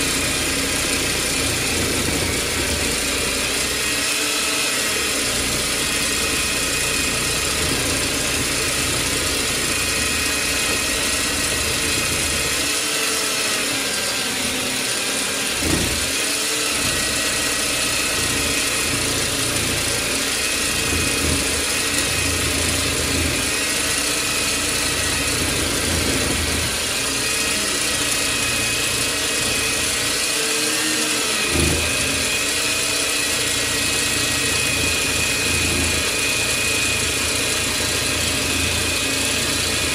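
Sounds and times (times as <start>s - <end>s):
band saw cutting steel: 0.0s - 39.9s.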